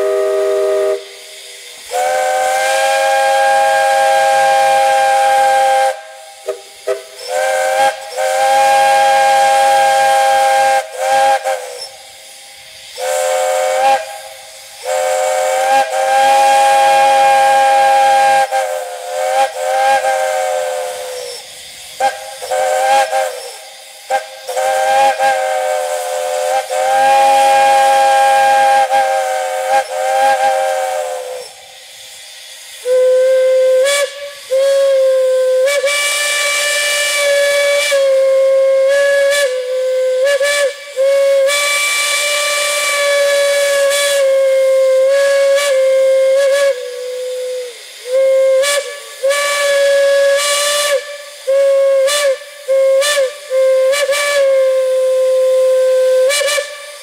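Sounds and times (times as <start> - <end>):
chime steam whistle blasts: 0.0 - 57.0.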